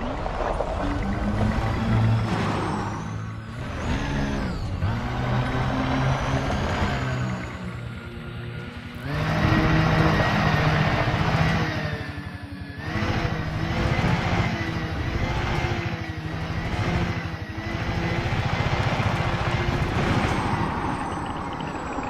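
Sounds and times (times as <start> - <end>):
engine running with low pulsing: 0.0 - 22.0.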